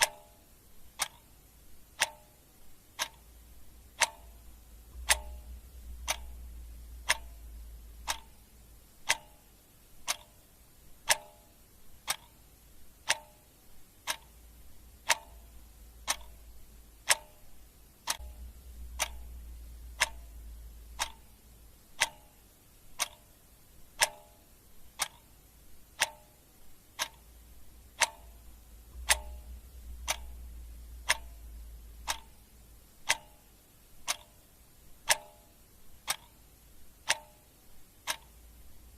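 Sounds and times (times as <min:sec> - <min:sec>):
clock ticking: 0:00.0 - 0:38.9
faint low hum: 0:00.0 - 0:38.9.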